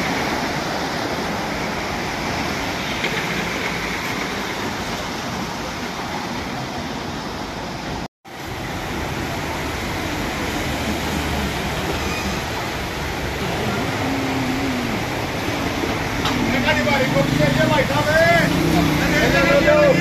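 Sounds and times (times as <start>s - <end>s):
truck splashing through water: 0.0s - 20.0s
water rushing on flooded street: 0.0s - 20.0s.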